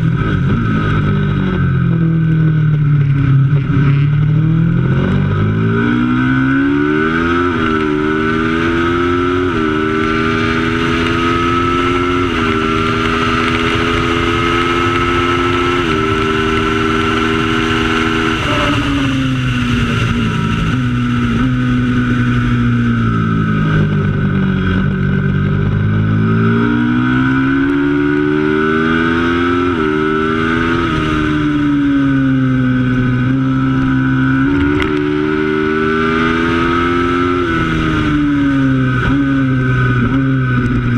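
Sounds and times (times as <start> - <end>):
racing motorcycle engine: 0.0 - 40.9.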